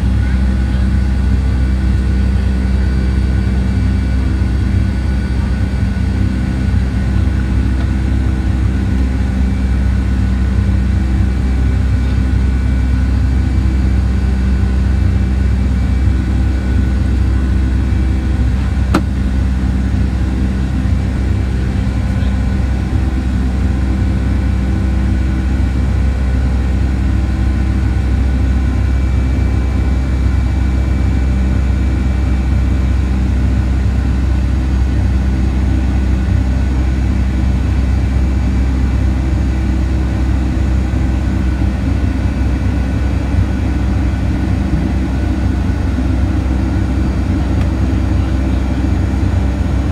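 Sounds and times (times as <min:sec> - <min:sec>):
aircraft cabin engine drone: 0:00.0 - 0:49.9.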